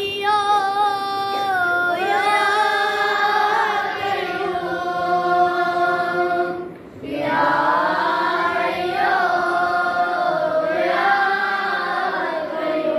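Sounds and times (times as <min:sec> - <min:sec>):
boys chanting prayer in unison: 0:00.0 - 0:12.9.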